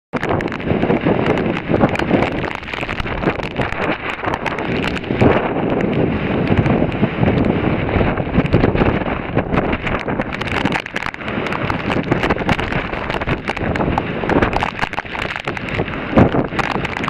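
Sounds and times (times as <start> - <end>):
strong wind buffeting microphone: 0.1 - 17.0.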